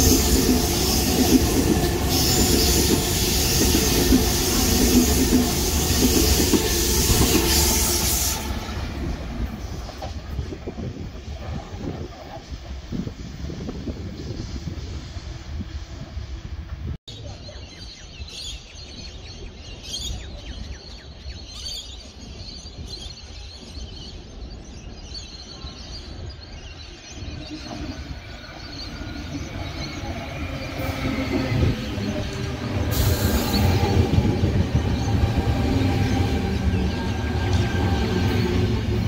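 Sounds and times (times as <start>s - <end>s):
train passing with low rumble: 0.0s - 39.0s.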